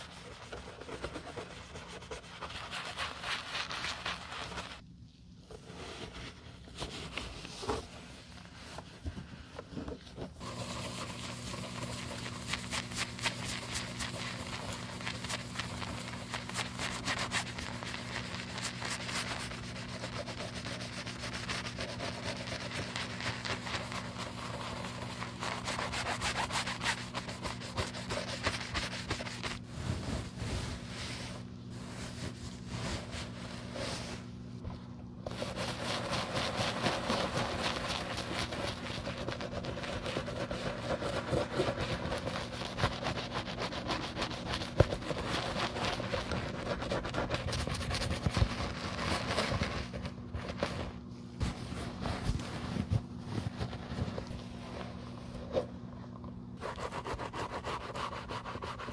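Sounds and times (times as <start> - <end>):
brush scrubbing leather: 0.0 - 4.8, 10.4 - 34.3, 35.3 - 55.9, 56.6 - 58.9.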